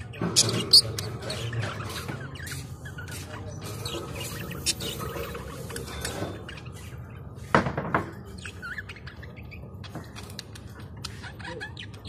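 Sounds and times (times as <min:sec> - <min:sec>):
parrot chirping and calling: 0:00.0 - 0:07.5, 0:08.1 - 0:12.0.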